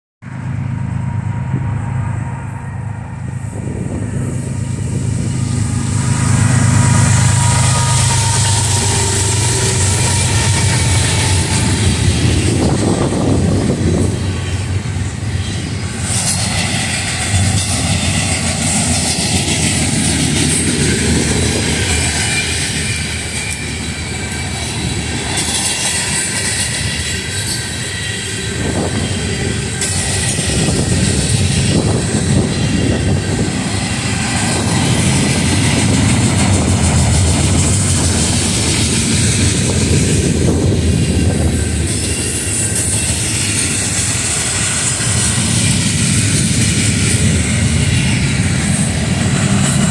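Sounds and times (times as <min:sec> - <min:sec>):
train wheels clattering on rail: 0:01.7 - 0:49.9.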